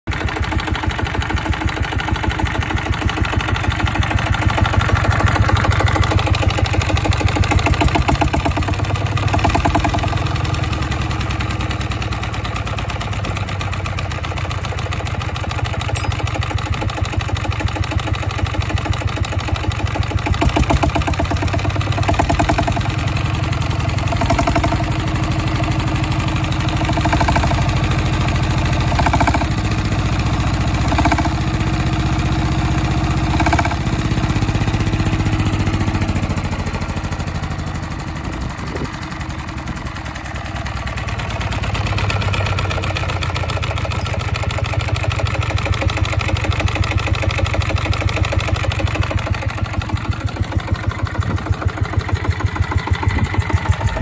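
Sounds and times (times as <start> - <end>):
diesel engine chugging: 0.1 - 54.0.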